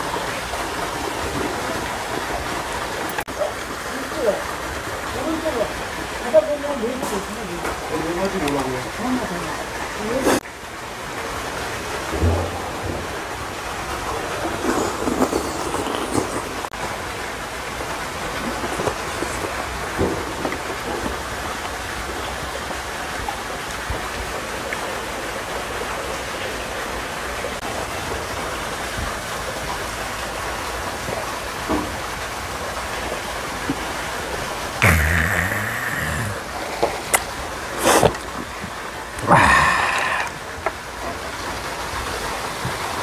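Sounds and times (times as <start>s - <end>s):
small waterfall rushing: 0.0s - 43.0s.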